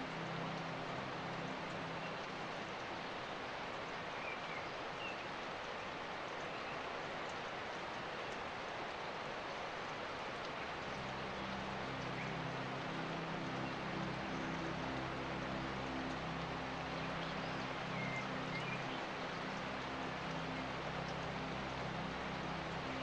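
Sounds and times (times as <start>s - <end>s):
rain-like hiss: 0.0s - 23.0s.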